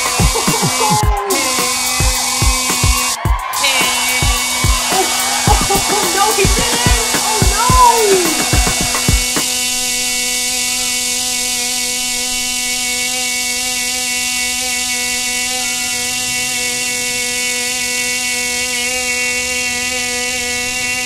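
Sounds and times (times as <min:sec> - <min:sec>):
cicada buzz: 0:00.0 - 0:21.0.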